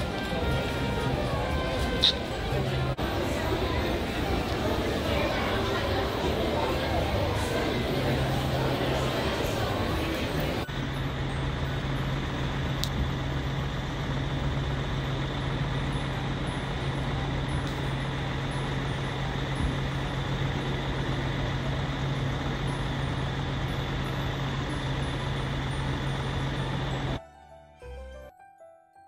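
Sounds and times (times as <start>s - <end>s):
constant low hum: 0.0s - 27.2s
distant road traffic: 0.0s - 27.2s.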